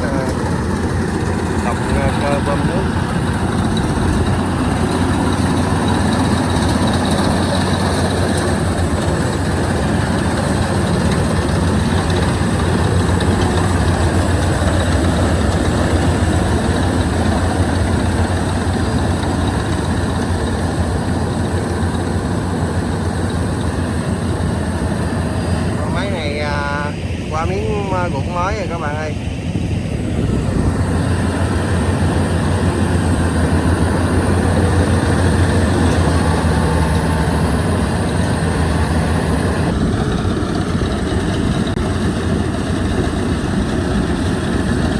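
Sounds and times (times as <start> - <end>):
heavy engine running: 0.0 - 44.9.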